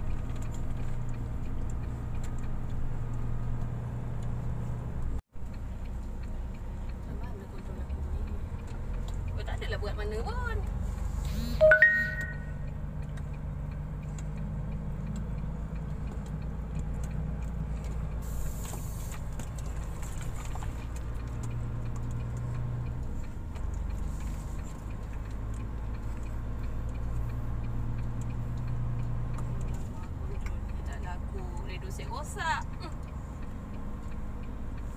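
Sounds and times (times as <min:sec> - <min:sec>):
truck diesel engine running: 0:00.0 - 0:34.9.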